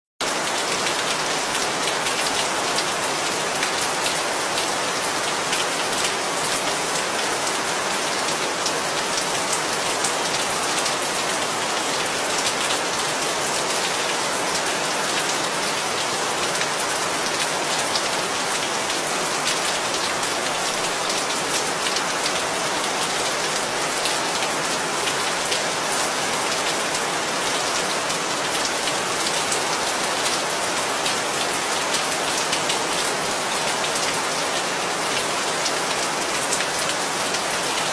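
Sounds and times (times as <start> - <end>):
heavy rain: 0.2 - 37.9.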